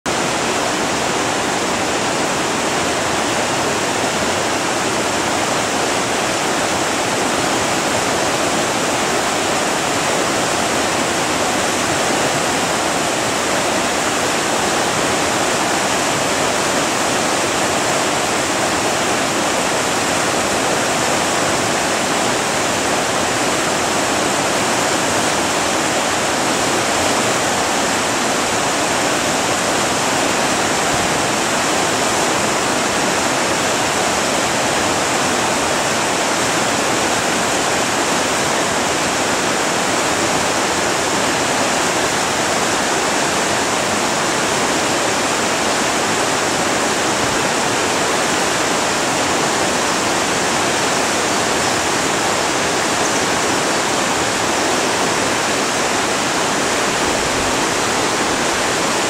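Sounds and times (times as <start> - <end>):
stream rushing over rocks: 0.1 - 59.0.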